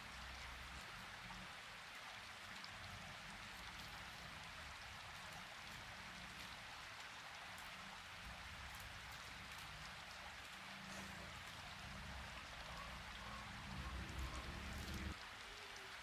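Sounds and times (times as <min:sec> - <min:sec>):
faint rain-like hiss: 0:00.0 - 0:16.0.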